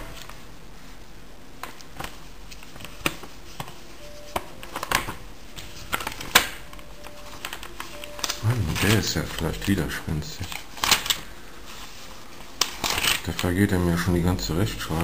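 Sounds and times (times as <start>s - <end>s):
paper pages rustling: 1.6s - 14.1s.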